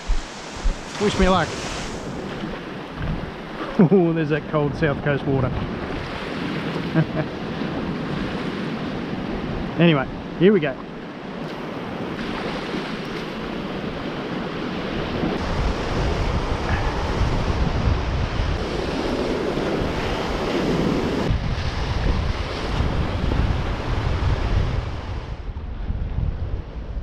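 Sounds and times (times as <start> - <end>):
surf breaking on rocky shore: 0.0 - 25.3
wind buffeting microphone: 0.0 - 27.0.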